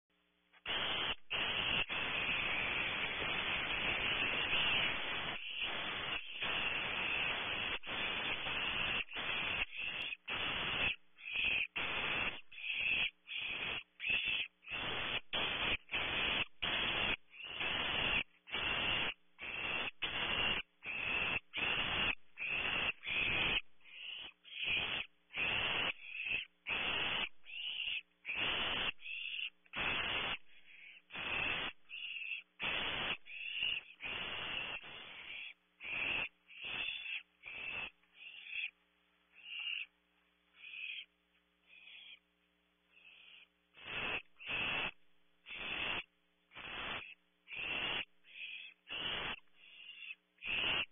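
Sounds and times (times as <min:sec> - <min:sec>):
owl chicks hissing calls: 0:00.6 - 0:42.3, 0:42.9 - 0:50.9.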